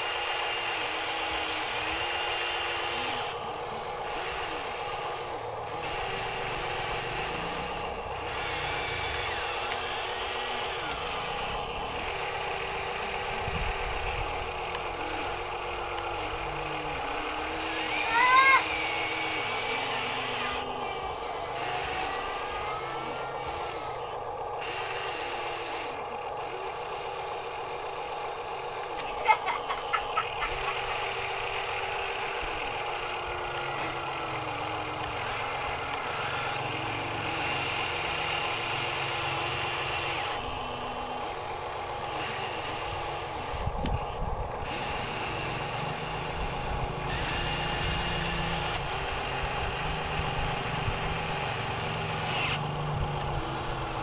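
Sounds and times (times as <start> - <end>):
electric motors whirring: 0.0 - 54.0
steady hum: 0.0 - 54.0.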